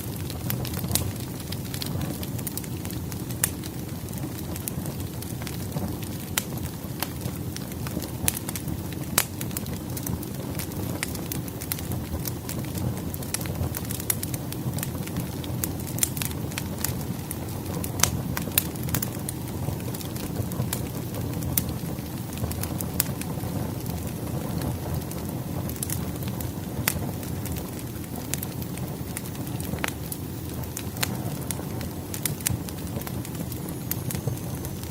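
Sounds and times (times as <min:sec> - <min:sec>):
logs crackling and popping: 0:00.0 - 0:34.9
low rumble of flames: 0:00.0 - 0:34.9.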